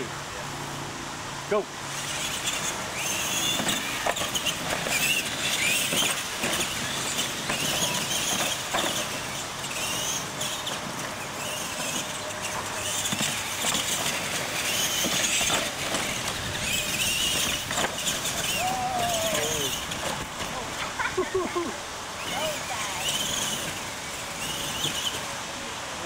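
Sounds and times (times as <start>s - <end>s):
electric motors whining: 0.0s - 26.0s
tyre noise on dirt: 2.2s - 25.4s.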